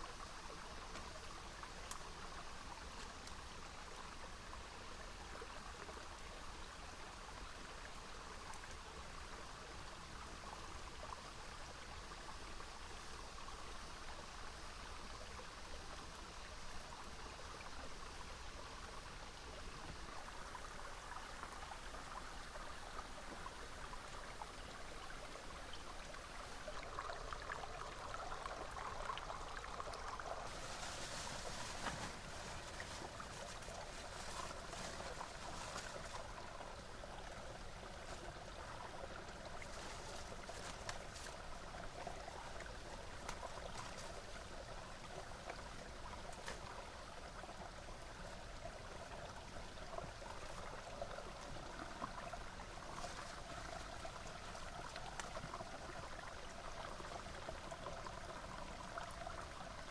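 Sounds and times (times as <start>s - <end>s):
rocky stream rushing and trickling: 0.0s - 59.9s.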